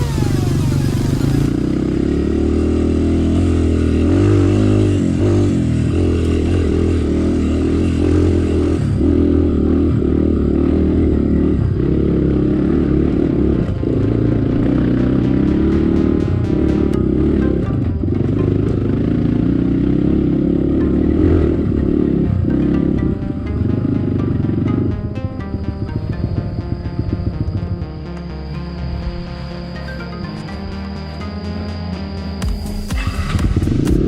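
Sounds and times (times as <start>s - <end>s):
dirt bike engine revving: 0.0s - 31.6s, 32.6s - 34.0s.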